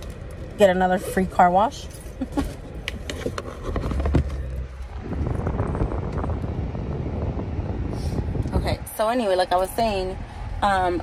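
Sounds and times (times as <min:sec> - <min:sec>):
engine and road rumble: 0:00.0 - 0:11.0.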